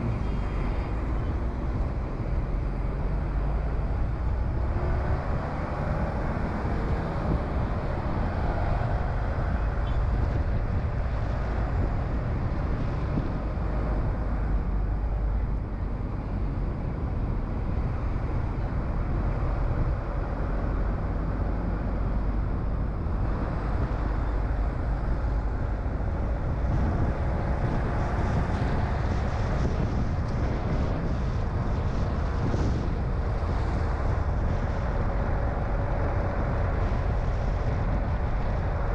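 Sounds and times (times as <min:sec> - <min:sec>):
road and engine rumble: 0:00.0 - 0:38.9
wind noise: 0:00.0 - 0:38.9.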